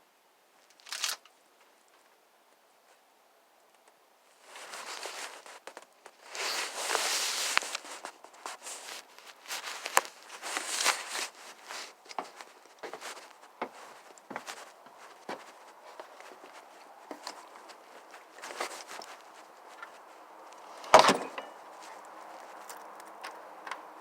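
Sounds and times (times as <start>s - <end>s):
close rustling and crunching: 0.6s - 2.0s, 4.3s - 24.0s.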